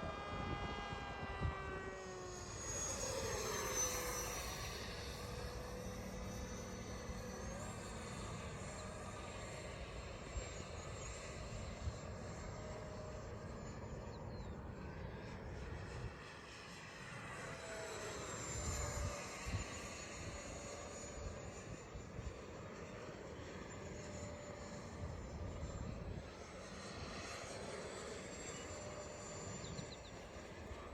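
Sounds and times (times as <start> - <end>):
model airplane motor whining: 0.0 - 30.9.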